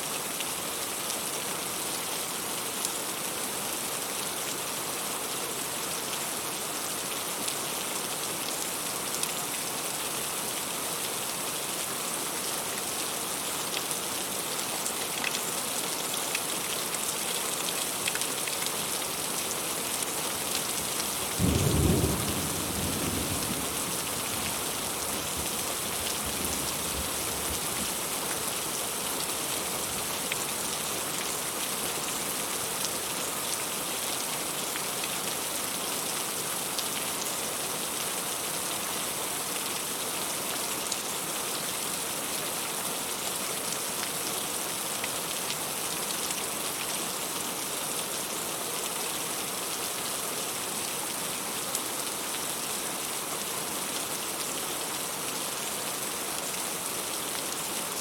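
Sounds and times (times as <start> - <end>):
heavy rain falling: 0.3 - 48.4.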